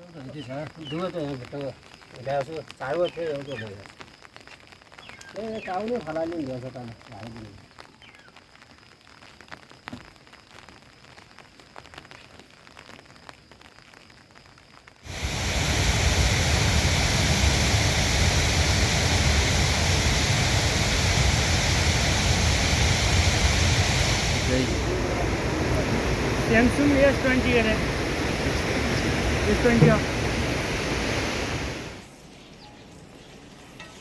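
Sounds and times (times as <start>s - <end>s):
heavy steady rain: 0.0s - 32.3s.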